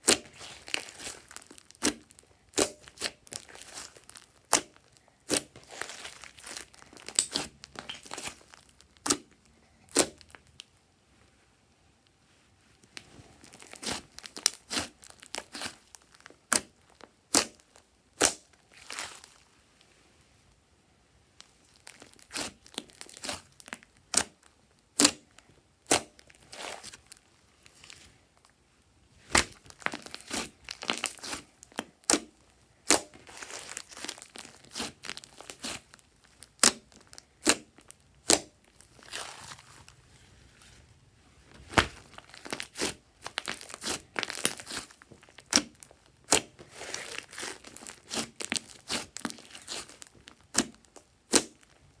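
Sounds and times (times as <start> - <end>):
slime popping and tearing: 0.0 - 10.6, 13.4 - 19.4, 21.4 - 27.2, 29.3 - 39.8, 41.6 - 51.8.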